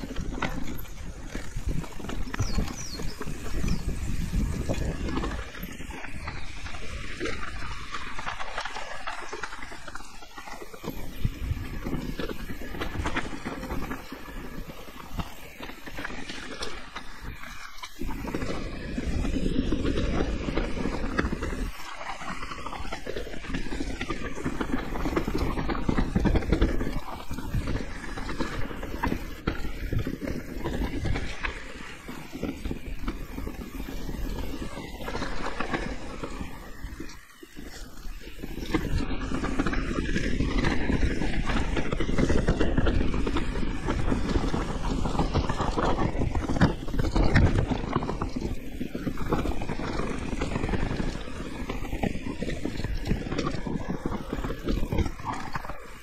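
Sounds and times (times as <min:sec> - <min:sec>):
mountain bike rattling: 0:00.0 - 0:56.0
tyres rolling over dirt trail: 0:00.0 - 0:56.0
wind rumbling on microphone: 0:00.0 - 0:56.0.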